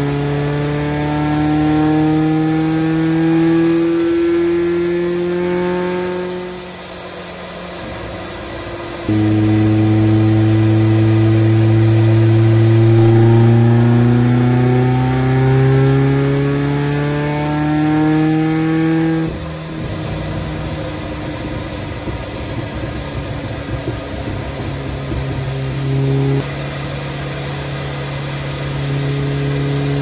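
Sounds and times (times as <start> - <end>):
car engine revving on dyno: 0.0 - 30.0
faint high supercharger whine: 0.0 - 30.0.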